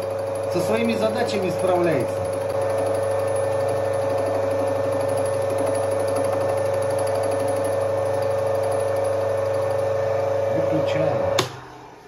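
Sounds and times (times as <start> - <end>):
metal lathe running: 0.0 - 11.6.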